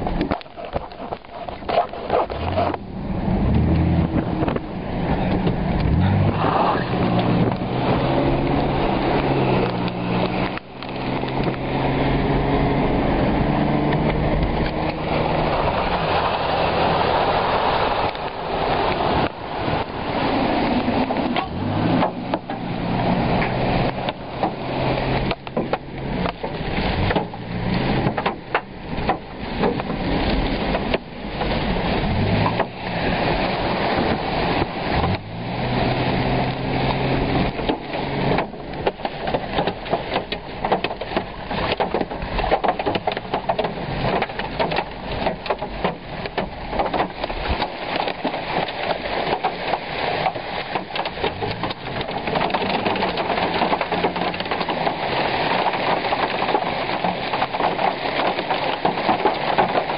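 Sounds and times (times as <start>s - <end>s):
rain and hail pelting a car: 0.0s - 59.9s
rushing wind: 0.0s - 59.9s.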